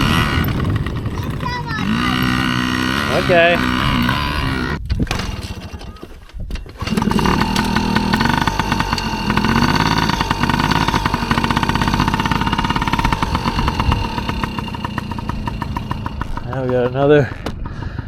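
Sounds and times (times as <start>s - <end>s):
dirt bike engine running: 0.0s - 5.9s, 6.8s - 18.0s.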